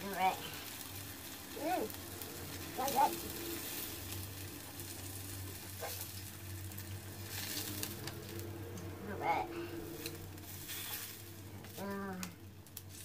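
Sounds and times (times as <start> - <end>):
mushrooms sizzling on a griddle: 0.0 - 13.0.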